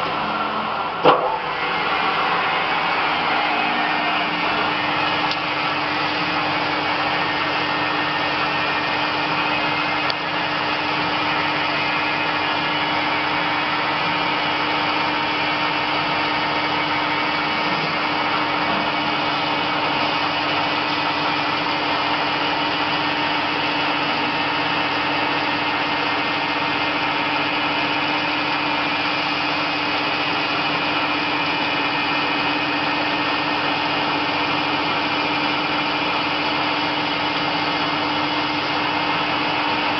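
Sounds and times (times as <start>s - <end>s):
lathe machine humming: 0.0s - 39.9s.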